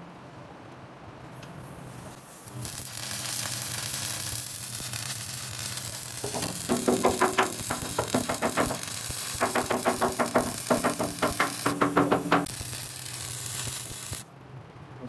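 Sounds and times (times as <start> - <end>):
welding arc crackling: 2.1 - 14.3.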